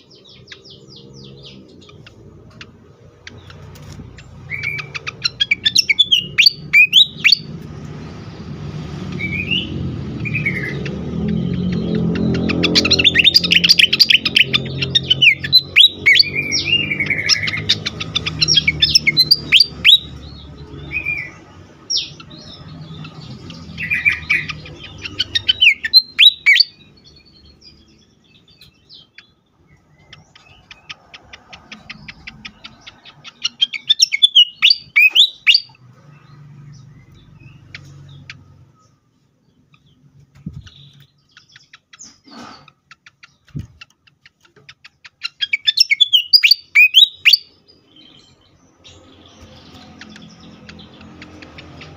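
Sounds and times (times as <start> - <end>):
bird chirping and whistling: 0.0 - 7.7, 9.1 - 38.4, 43.0 - 51.9.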